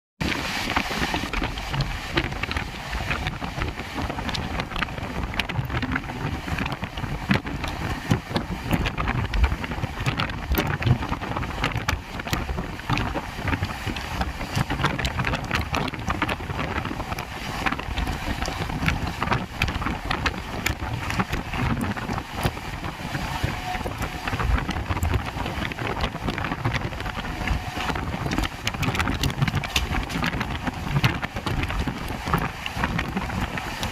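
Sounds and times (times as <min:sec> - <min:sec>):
train rumbling: 0:00.2 - 0:33.9.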